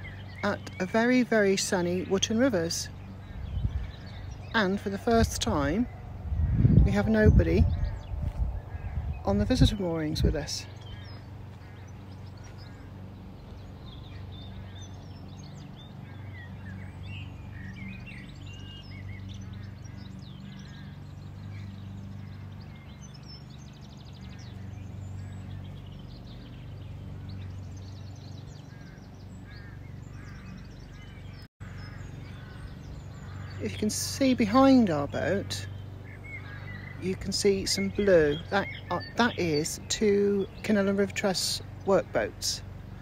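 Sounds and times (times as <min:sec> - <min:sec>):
small birds chirping: 0:00.0 - 0:43.0
steady low hum: 0:00.0 - 0:43.0.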